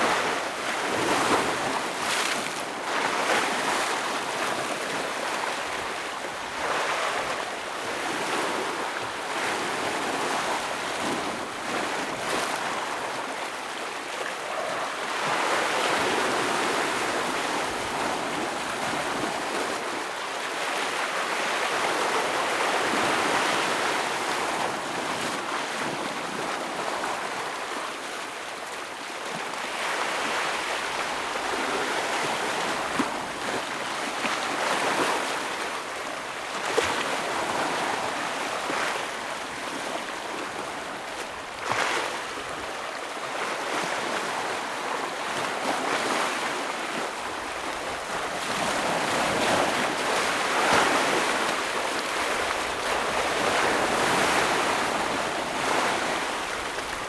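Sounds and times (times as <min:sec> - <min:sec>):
ocean waves breaking on rocks: 0:00.0 - 0:27.8, 0:29.7 - 0:57.0.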